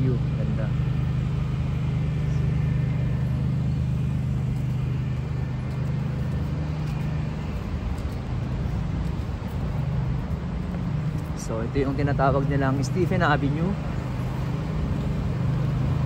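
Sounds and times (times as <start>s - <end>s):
engine low hum: 0.0s - 16.0s
street traffic: 0.0s - 16.0s.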